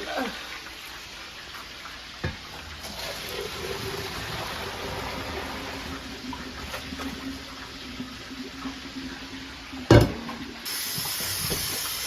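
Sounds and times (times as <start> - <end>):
tap water splashing into sink: 1.6 - 9.2, 9.8 - 12.0.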